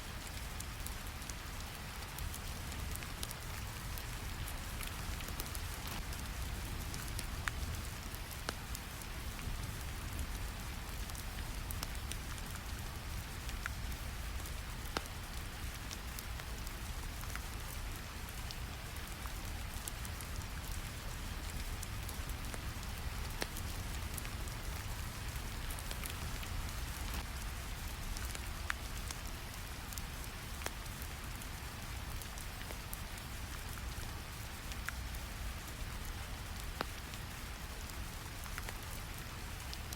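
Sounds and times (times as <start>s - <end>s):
steady rain: 0.0s - 39.9s
small crackles and clicks: 0.1s - 39.9s.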